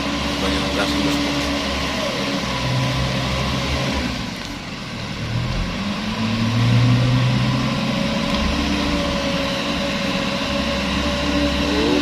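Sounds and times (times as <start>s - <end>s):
truck diesel engine revving: 0.0s - 12.0s.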